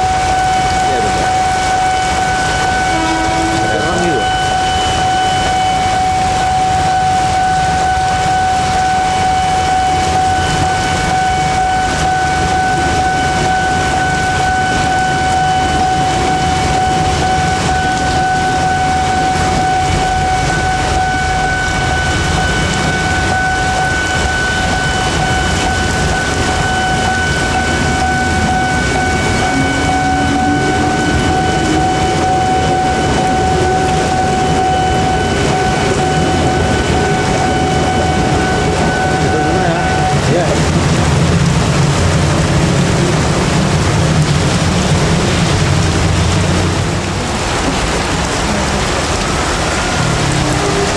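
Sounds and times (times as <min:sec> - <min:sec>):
heavy rain hiss: 0:00.0 - 0:50.9
level crossing warning tone: 0:00.0 - 0:50.9
train rumbling: 0:00.0 - 0:50.9.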